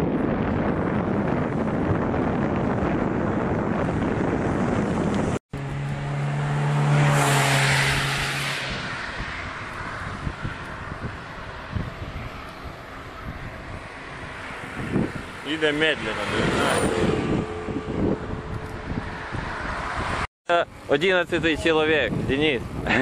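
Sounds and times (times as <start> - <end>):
wind on microphone: 0.0 - 5.4, 6.7 - 23.0
passing car engine and tyres: 0.0 - 23.0.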